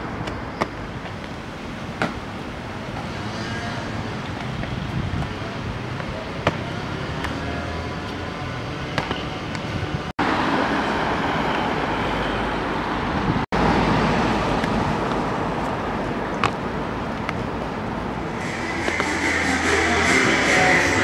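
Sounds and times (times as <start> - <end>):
passing cars hum: 0.0 - 21.0.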